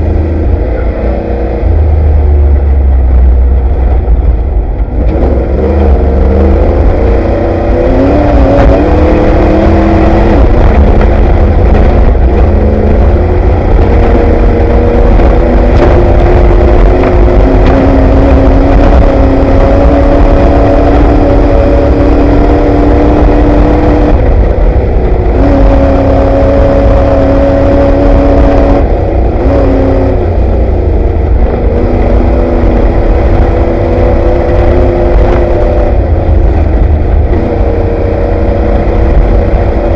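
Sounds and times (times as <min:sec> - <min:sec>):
low rumble from rough ground: 0:00.0 - 0:39.9
truck engine running hard: 0:00.0 - 0:39.9.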